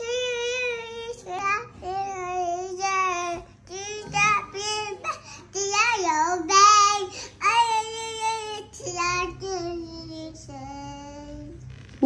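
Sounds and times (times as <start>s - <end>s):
toddler girl singing: 0.0s - 11.6s.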